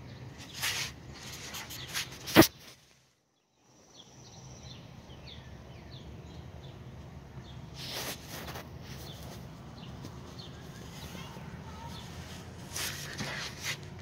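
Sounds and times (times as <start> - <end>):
faint background noise: 0.0 - 14.0
small birds chirping: 0.0 - 14.0.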